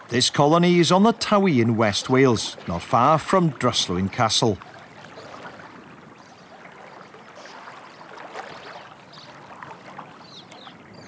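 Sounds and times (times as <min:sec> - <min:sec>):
river water running: 0:00.0 - 0:11.0.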